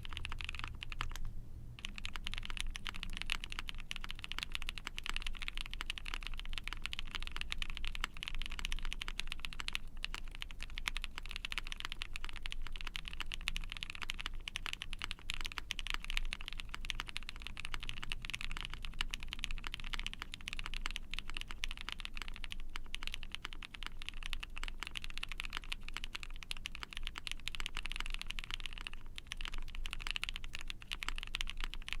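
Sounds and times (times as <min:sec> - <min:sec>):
typing on mechanical keyboard: 0:00.0 - 0:32.0.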